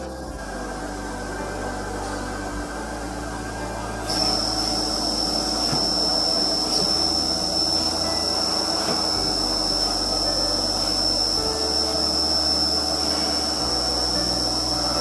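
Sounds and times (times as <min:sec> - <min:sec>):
machine hum: 0:00.0 - 0:15.0
milling cutter high-pitched whine: 0:00.0 - 0:15.0.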